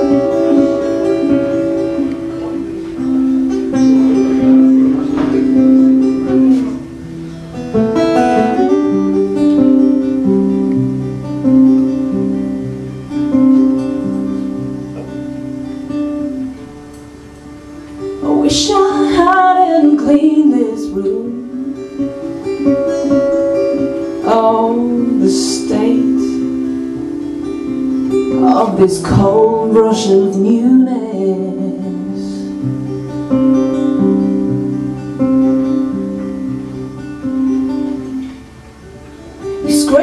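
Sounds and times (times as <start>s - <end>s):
acoustic guitar strummed and picked: 0.0s - 40.0s.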